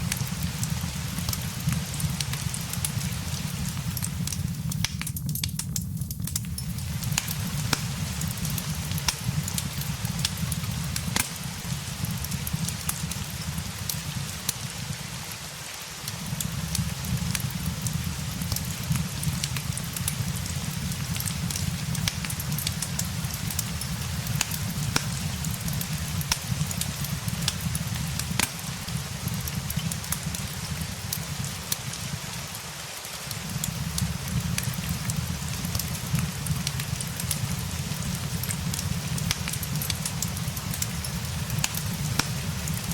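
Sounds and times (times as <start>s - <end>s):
rain hiss: 0.0s - 42.9s
wood fire crackling: 0.0s - 42.9s.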